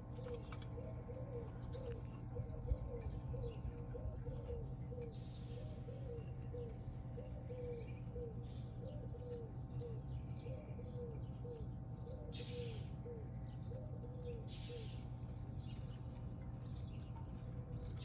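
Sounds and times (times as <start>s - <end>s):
dove cooing: 0.0s - 14.9s
steady low hum: 0.0s - 18.0s.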